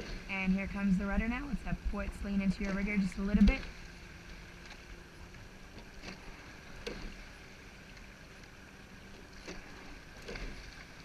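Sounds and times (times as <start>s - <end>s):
oars knocking and splashing: 0.0s - 11.0s
water washing along hull: 0.0s - 11.0s.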